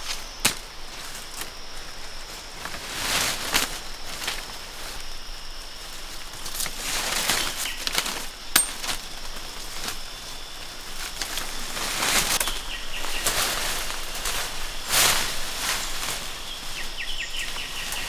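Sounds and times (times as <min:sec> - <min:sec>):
high insect hum: 0:00.0 - 0:18.0
leaves rustling and swishing: 0:00.0 - 0:18.0.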